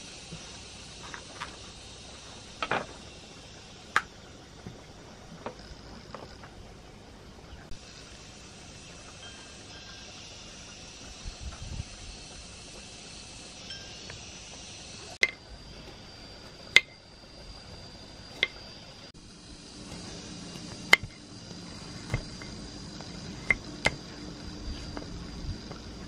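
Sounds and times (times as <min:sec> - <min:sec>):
faint high whine: 0:00.0 - 0:26.0.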